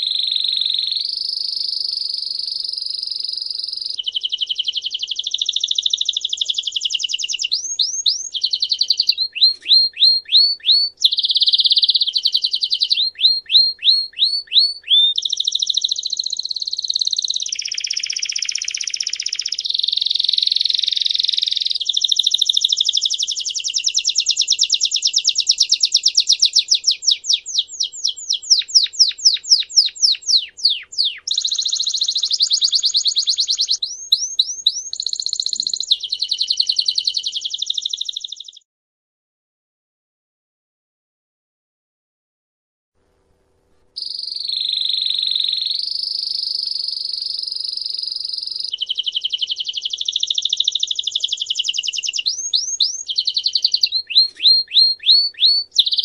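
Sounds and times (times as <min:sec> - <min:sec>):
canary singing trills: 0:00.0 - 0:38.6, 0:44.0 - 0:56.0.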